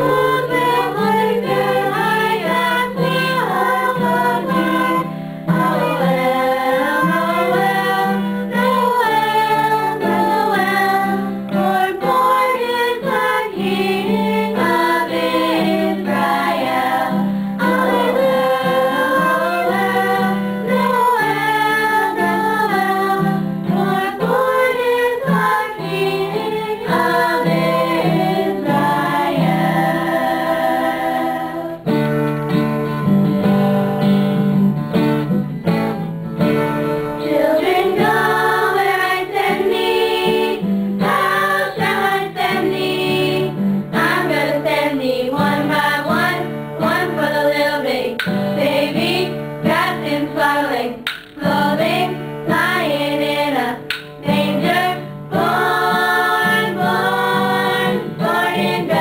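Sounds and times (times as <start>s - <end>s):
girls singing in unison: 0.0s - 32.0s, 35.7s - 59.0s
instrumental accompaniment: 0.0s - 59.0s.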